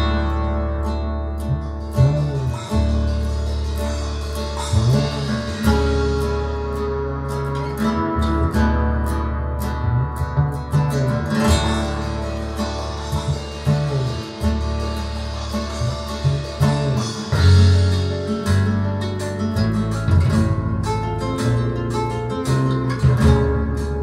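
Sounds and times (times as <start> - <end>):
guitar music with strong bass: 0.0 - 24.0.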